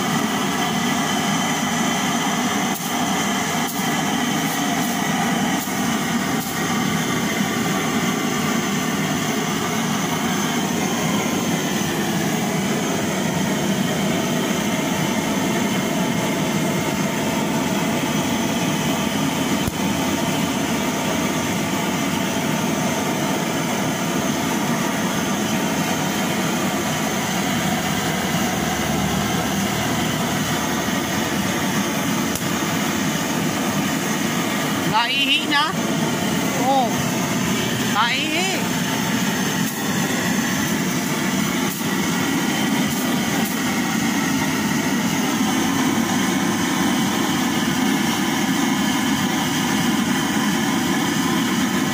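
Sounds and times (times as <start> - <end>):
blowtorch flame rushing: 0.0 - 51.9.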